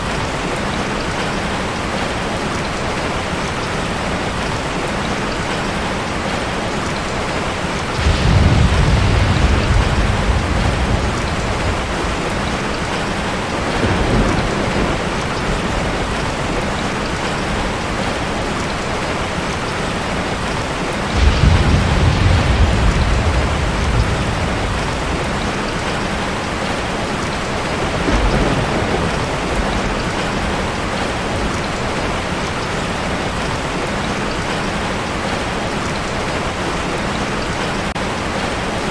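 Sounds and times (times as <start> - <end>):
ocean surf washing: 5.4 - 38.9
heavy waves breaking: 6.1 - 38.9.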